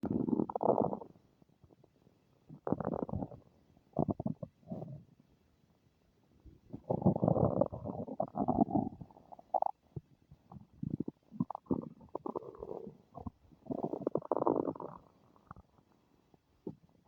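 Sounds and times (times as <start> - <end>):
stomach rumbling and gurgling: 0.0 - 5.1, 6.5 - 17.0.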